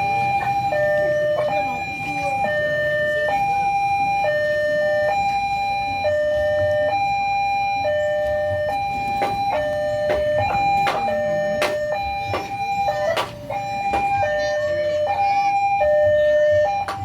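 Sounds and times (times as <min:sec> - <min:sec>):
level-crossing warning alarm: 0:00.0 - 0:17.0
low traffic rumble: 0:00.0 - 0:17.0.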